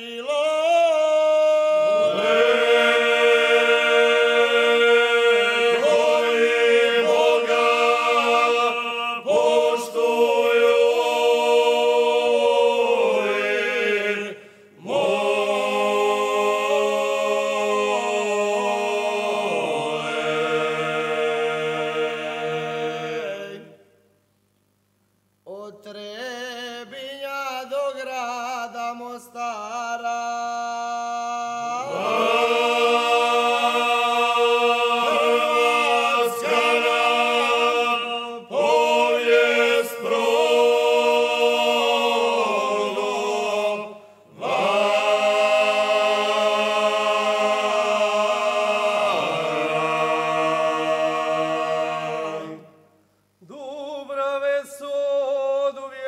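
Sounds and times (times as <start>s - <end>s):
male vocal group singing a cappella: 0.0s - 23.8s, 25.5s - 52.7s, 53.4s - 56.0s.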